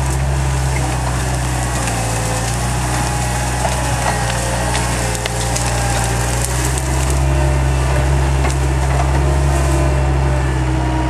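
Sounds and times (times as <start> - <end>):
branches crackling and snapping: 0.0 - 10.9
skid steer engine running: 0.0 - 11.0.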